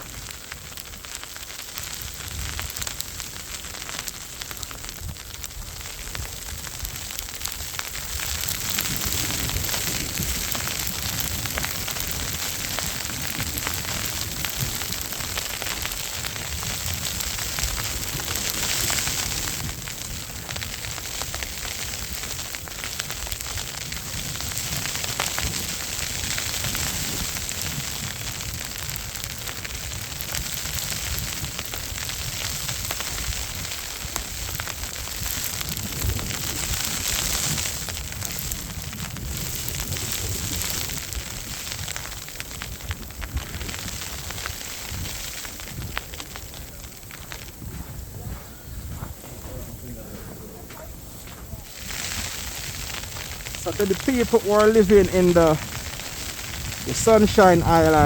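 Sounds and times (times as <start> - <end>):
crackling hiss of snowstorm: 0.0 - 58.0.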